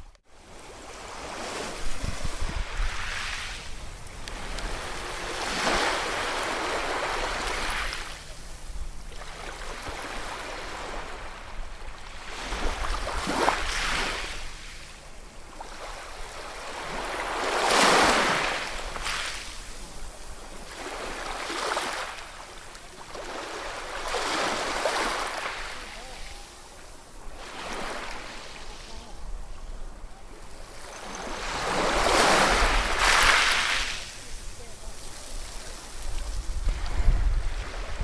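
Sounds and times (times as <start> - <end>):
ocean waves breaking: 0.0 - 14.8, 15.5 - 38.0.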